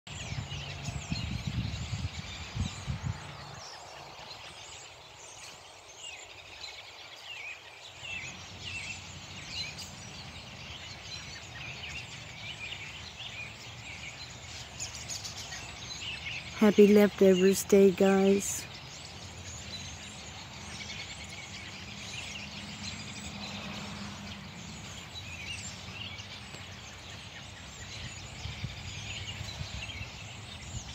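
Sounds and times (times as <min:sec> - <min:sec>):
songbirds chirping: 0:00.1 - 0:30.9.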